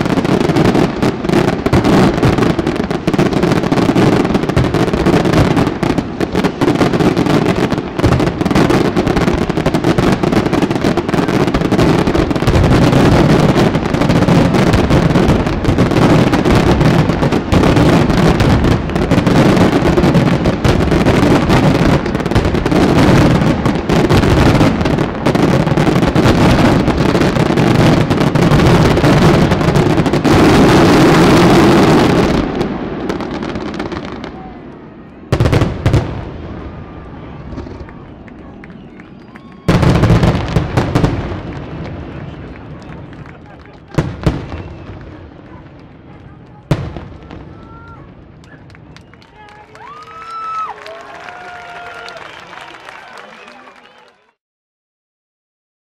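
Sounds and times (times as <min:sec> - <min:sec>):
fireworks bangs: 0:00.0 - 0:54.2.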